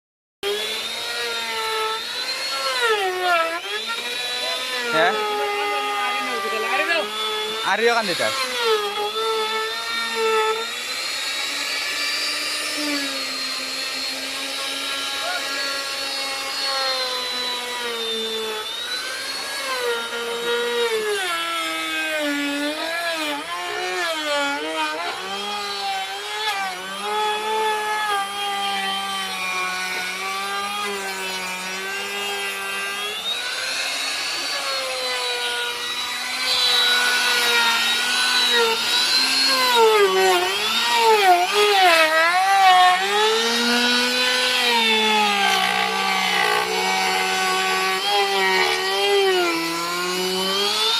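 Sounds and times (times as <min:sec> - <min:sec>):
wood router cutting: 0:00.4 - 0:50.9.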